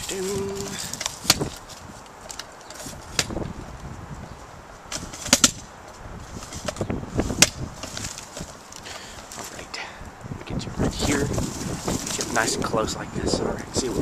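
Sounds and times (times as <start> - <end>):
low handling rustle: 0.0 - 14.0.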